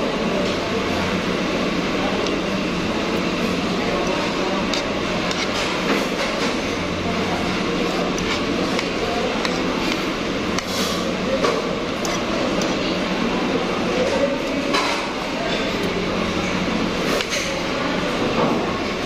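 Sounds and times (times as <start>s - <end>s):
restaurant din: 0.0s - 19.0s.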